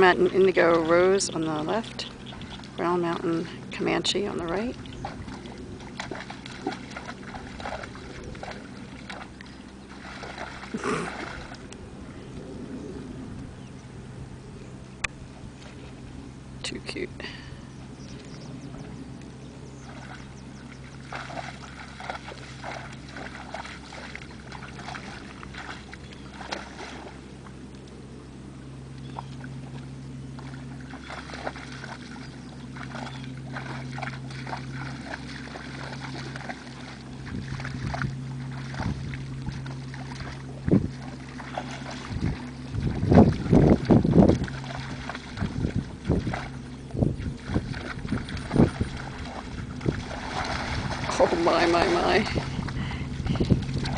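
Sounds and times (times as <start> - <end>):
horses splashing in water and mud: 0.0 - 53.9
low hum: 0.0 - 53.9.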